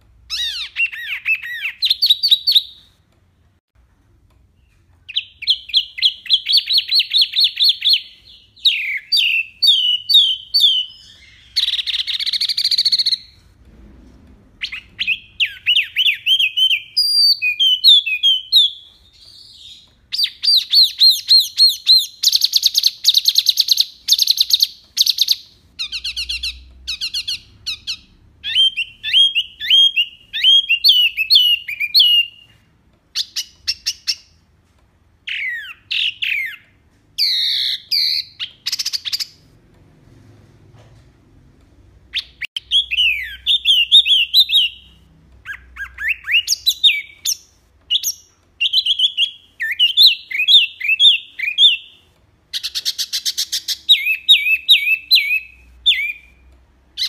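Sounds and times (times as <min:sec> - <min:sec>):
bird trilling and whistling: 0:00.3 - 0:02.8, 0:05.1 - 0:13.4, 0:14.6 - 0:32.6, 0:35.3 - 0:39.4, 0:42.1 - 0:56.4.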